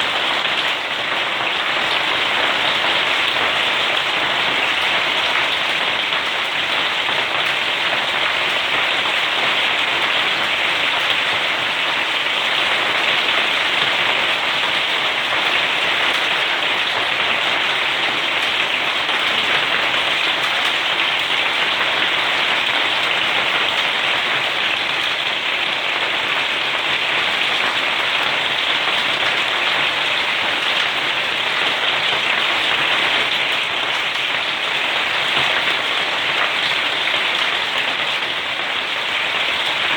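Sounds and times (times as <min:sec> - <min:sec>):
hail and rain pelting down: 0:00.0 - 0:39.9.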